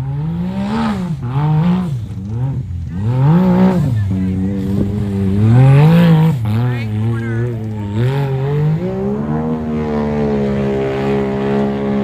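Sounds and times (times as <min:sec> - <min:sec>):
buggy engine revving hard: 0:00.0 - 0:12.0.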